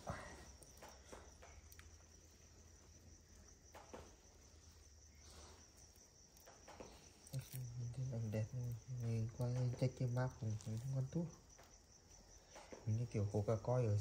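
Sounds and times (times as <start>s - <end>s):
high cricket trill: 0.0s - 14.0s.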